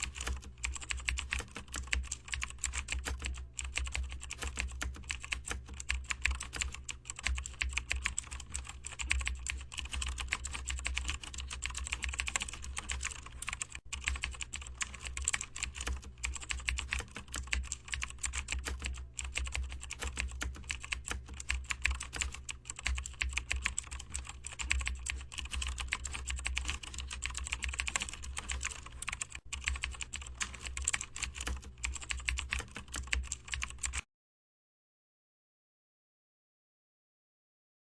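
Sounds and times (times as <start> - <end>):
fast typing on keyboard: 0.0 - 34.1.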